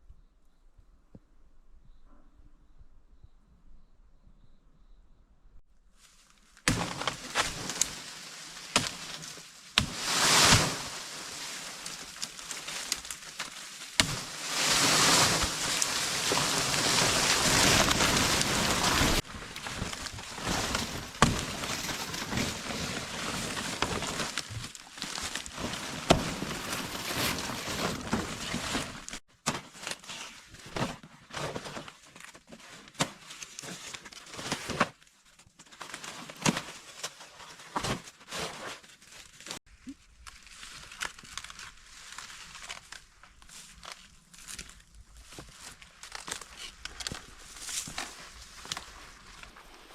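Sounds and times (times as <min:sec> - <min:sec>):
rustling and crackling: 0:06.0 - 0:35.0, 0:35.6 - 0:49.9.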